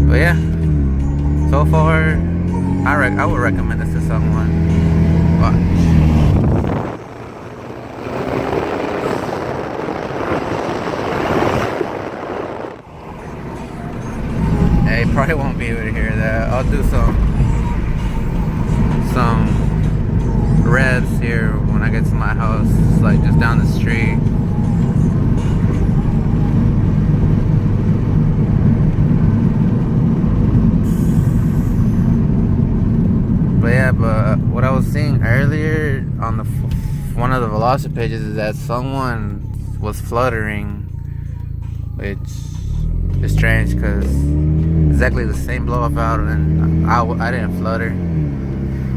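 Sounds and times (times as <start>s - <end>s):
road noise: 0.0s - 48.9s
turbocharged car engine under throttle: 0.0s - 48.9s.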